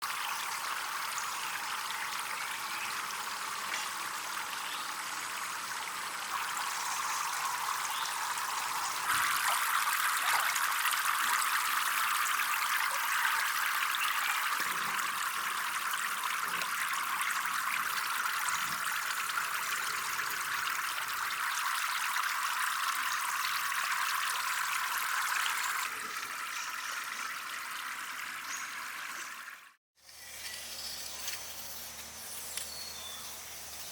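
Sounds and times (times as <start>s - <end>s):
water trickling: 0.0s - 29.7s.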